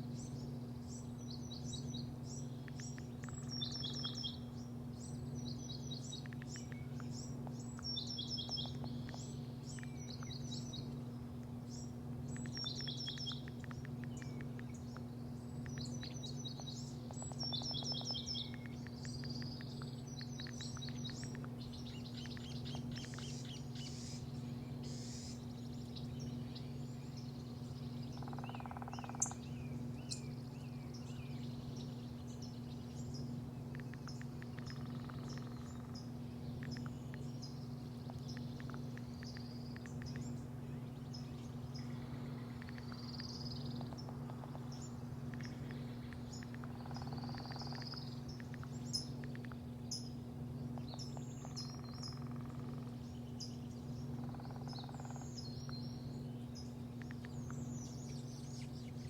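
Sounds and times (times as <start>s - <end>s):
low machine hum: 0.0s - 59.0s
songbirds chirping: 0.0s - 59.0s.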